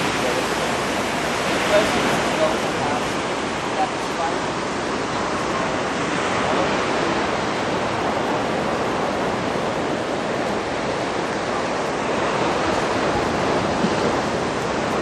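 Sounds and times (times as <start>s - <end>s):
waves washing onto beach: 0.0s - 15.0s.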